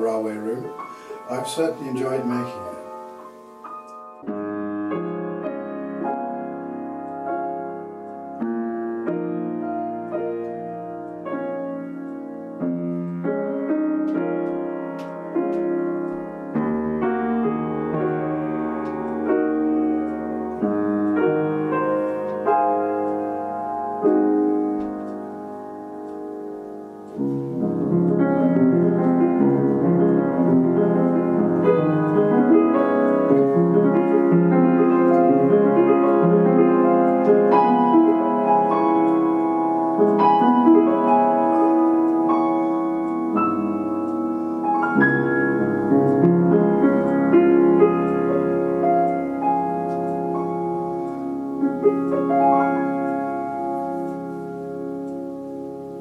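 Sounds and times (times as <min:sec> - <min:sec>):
slow piano piece: 0:00.0 - 0:56.0.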